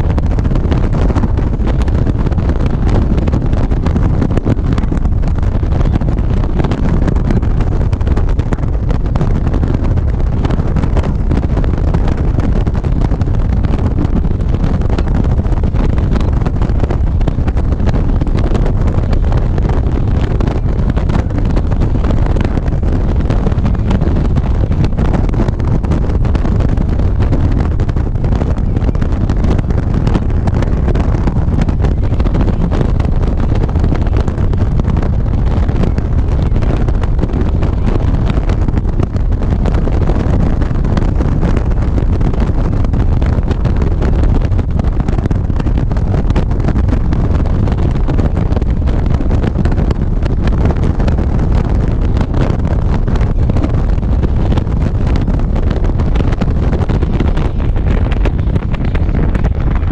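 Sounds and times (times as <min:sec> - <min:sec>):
motorcycle running: 0:00.0 - 0:59.9
wind buffeting microphone: 0:00.0 - 0:59.9.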